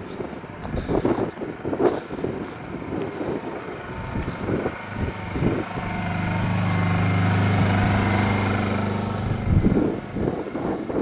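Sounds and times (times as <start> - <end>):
irregular low rumble: 0.0 - 11.0
steady motor hum: 0.0 - 11.0.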